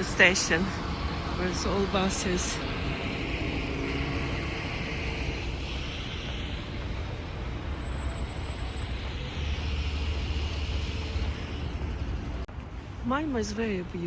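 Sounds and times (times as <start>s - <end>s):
bus engine rumble: 0.0s - 14.0s
street traffic: 0.0s - 14.0s.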